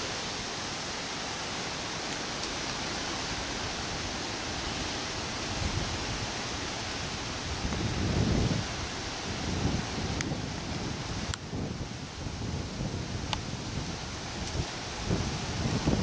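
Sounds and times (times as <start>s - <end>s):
outdoor ambience hiss: 0.0s - 16.0s.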